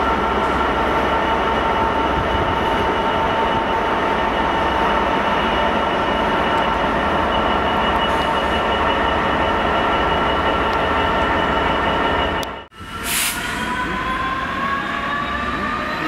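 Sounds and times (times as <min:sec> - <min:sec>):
diesel locomotive engine: 0:00.0 - 0:16.0
locomotive whine: 0:00.0 - 0:16.0
train wheel noise: 0:00.0 - 0:16.0.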